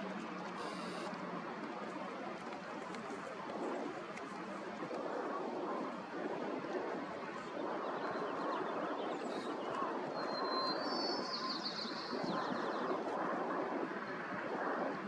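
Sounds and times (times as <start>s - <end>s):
turboprop engine drone: 0.0s - 15.0s.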